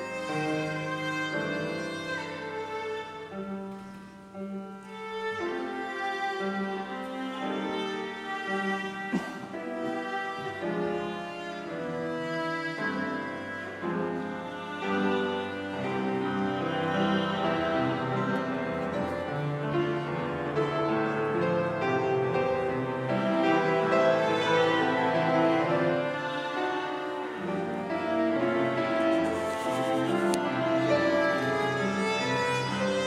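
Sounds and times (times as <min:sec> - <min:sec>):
bowed string instrument: 0:00.0 - 0:33.0.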